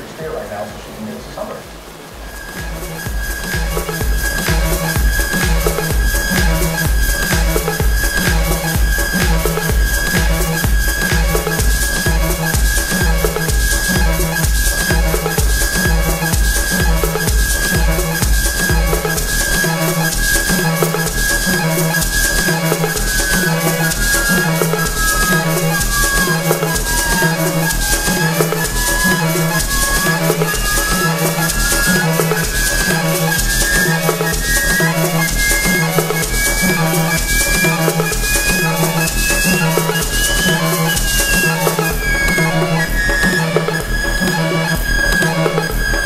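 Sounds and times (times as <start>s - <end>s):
sliding lead line: 0.0s - 45.7s
background music: 0.0s - 46.0s.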